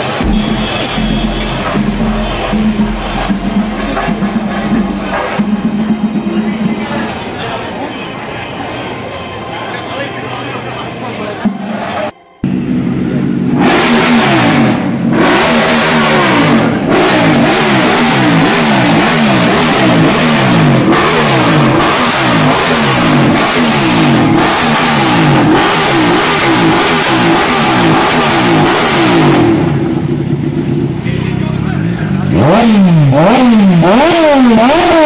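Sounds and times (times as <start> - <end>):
motorcycle engine revving: 0.0 - 7.4, 11.5 - 35.0.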